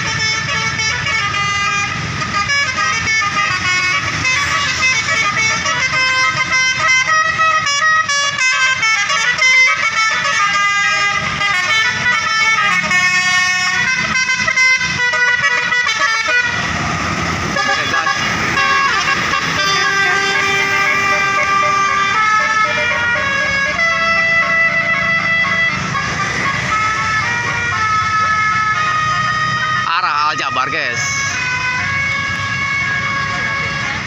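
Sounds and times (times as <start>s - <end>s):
bus engine rumbling: 0.0s - 34.0s
multi-tone bus horn tune: 0.0s - 34.0s.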